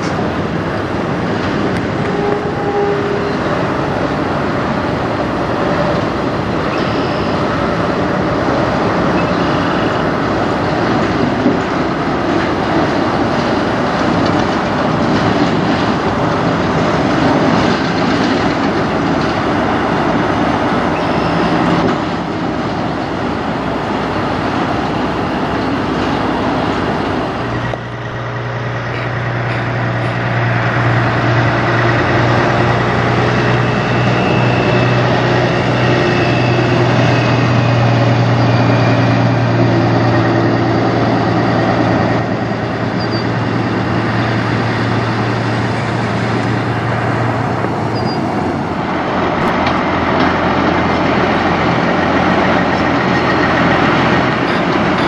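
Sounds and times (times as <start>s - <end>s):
diesel truck engine running: 0.0s - 55.0s
truck pulling in: 0.0s - 55.0s
truck rolling past: 0.0s - 55.0s.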